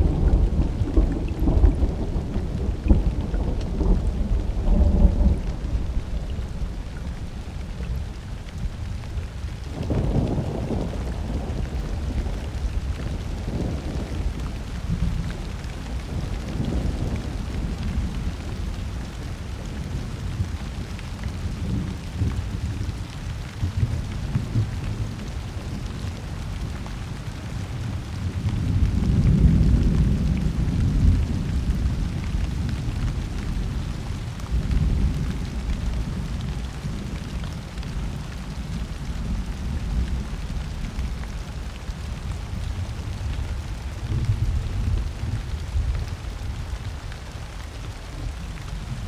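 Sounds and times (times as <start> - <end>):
rolling thunder: 0.0 - 20.9, 27.5 - 47.0
steady rain falling: 0.0 - 49.0.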